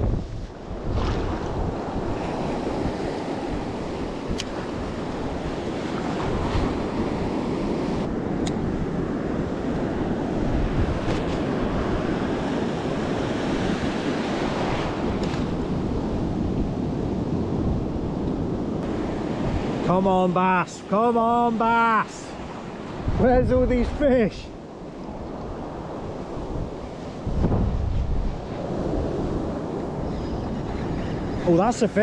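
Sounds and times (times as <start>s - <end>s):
wind buffeting microphone: 0.0s - 19.8s, 22.7s - 32.0s
waves breaking in surf: 0.0s - 32.0s.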